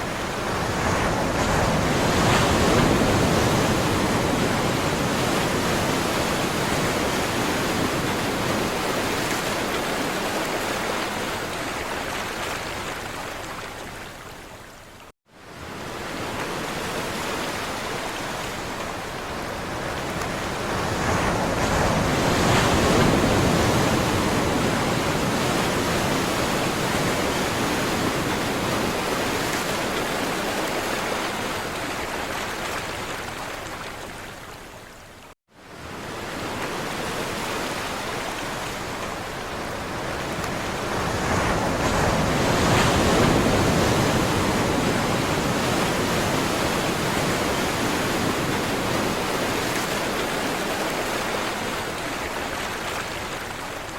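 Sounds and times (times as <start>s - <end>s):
sea waves washing: 0.0s - 13.8s, 15.5s - 34.4s, 35.7s - 53.9s.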